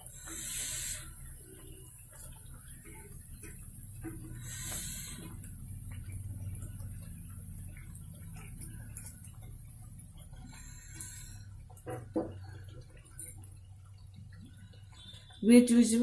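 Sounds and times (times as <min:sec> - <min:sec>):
food deep-frying in oil: 0:00.0 - 0:16.0
low steady hum: 0:00.0 - 0:16.0.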